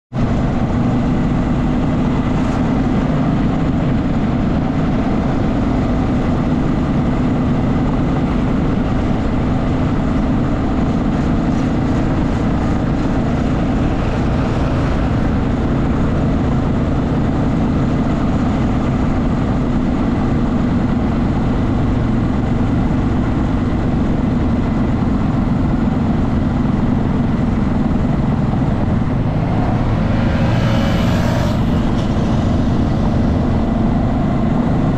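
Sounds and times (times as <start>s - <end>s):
road noise: 0.1s - 34.9s
wind: 0.1s - 34.9s
motorcycle engine running: 0.2s - 34.9s.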